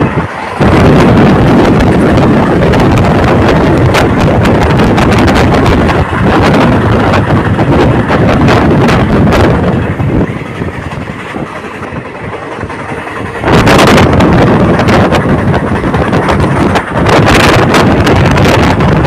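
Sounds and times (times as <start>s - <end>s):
train coaches rumbling and clattering: 0.0s - 19.0s
wind buffeting microphone: 0.0s - 19.0s.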